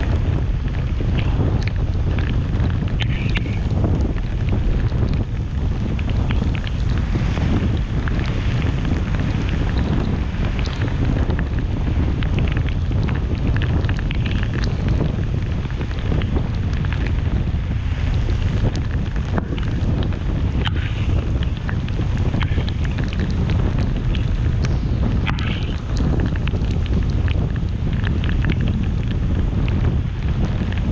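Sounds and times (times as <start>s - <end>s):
car road and wind rumble: 0.0s - 30.9s.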